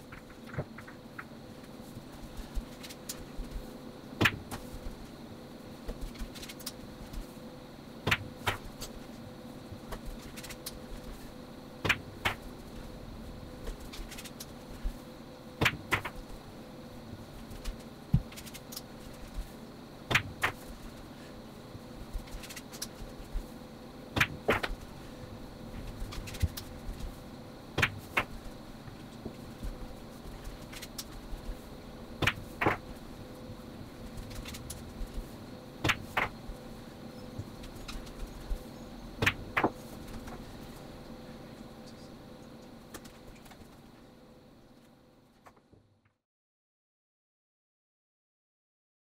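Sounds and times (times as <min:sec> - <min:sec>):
faint steady hum: 0:00.0 - 0:46.2.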